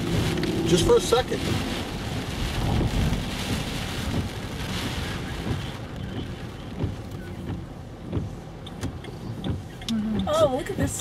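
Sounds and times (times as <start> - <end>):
rain on car: 0.0 - 11.0
tyres rumbling on wet road: 0.0 - 11.0.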